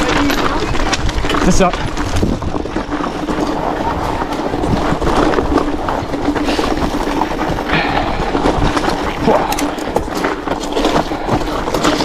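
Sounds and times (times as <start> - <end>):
bike chain and frame clattering: 0.0 - 12.0
tyres crunching on stones: 0.0 - 12.0.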